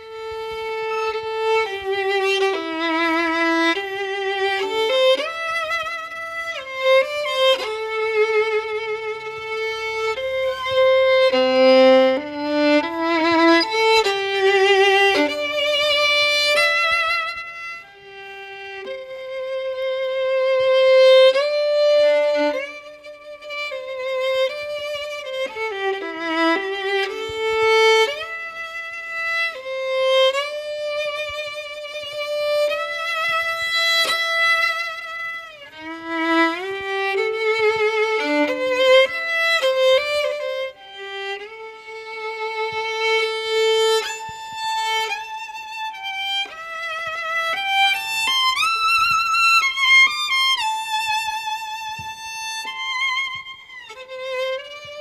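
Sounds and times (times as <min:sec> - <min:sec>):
solo violin slow melody: 0:00.0 - 0:55.0.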